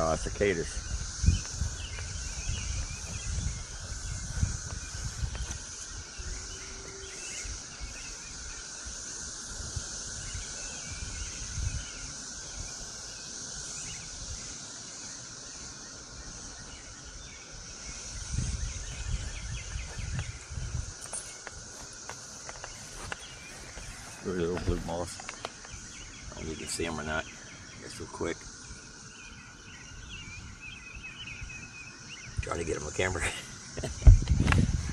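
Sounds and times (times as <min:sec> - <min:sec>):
cicadas droning: 0:00.0 - 0:34.9.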